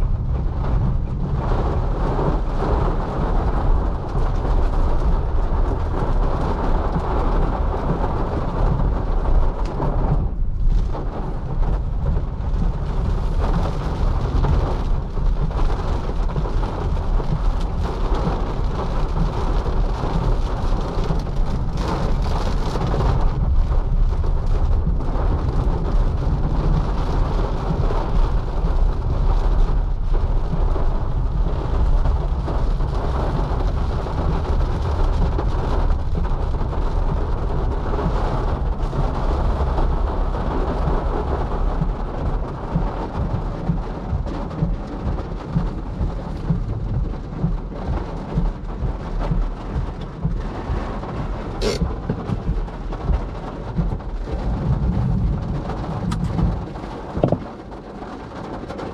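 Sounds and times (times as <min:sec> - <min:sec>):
constant deep rumble: 0:00.0 - 0:58.9
heavy rain on a car: 0:00.0 - 0:58.9.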